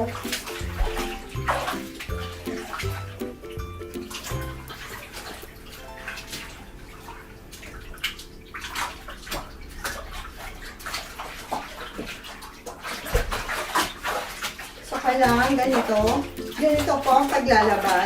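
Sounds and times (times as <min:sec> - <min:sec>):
water splashing in a bathtub: 0:00.0 - 0:18.0.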